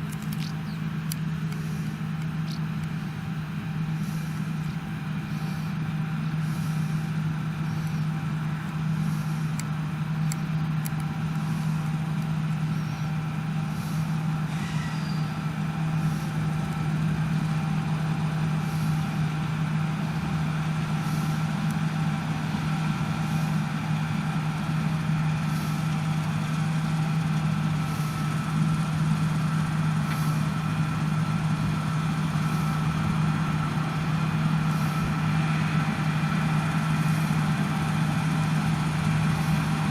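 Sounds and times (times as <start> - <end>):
diesel engine deep hum: 0.0 - 39.9
high machinery whines: 0.0 - 39.9.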